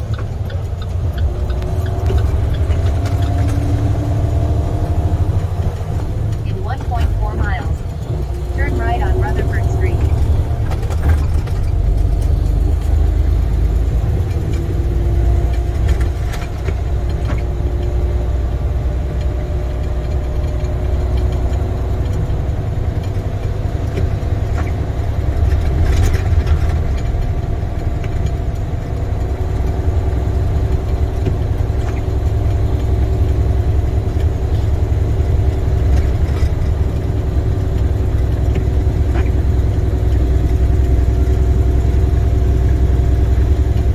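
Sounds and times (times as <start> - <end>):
diesel engine rumble: 0.0 - 43.9.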